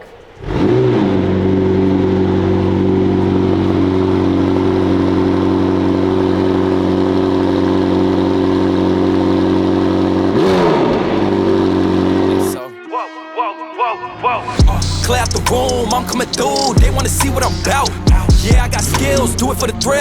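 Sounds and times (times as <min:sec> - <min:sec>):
sports car engine starting and idling: 0:00.0 - 0:12.6, 0:14.6 - 0:20.0.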